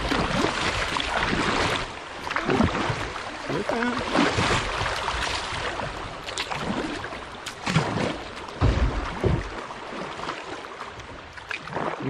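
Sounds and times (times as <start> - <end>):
paddle splashes: 0.0 - 12.0
river water rushing: 0.0 - 12.0.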